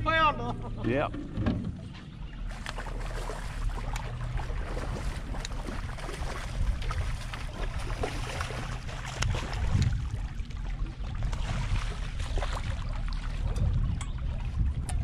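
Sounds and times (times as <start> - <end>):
wind and water rumble: 0.0 - 15.0
light water splashes: 0.8 - 15.0.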